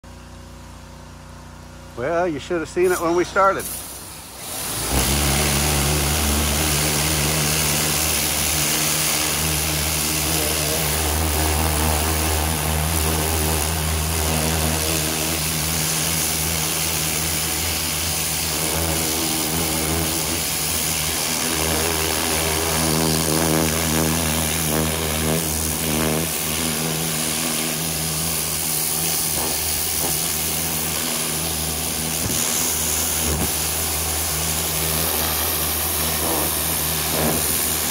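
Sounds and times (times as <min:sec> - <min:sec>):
pressure washer motor humming: 0:00.0 - 0:37.9
water jet hissing: 0:02.8 - 0:37.9.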